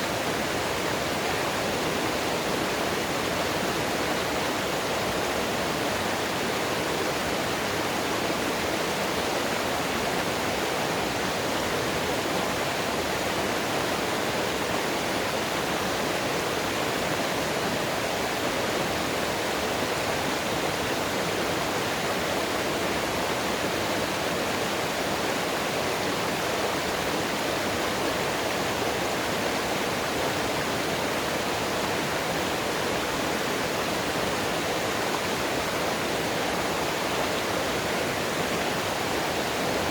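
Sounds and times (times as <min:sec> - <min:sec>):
mountain water rushing: 0:00.0 - 0:39.9.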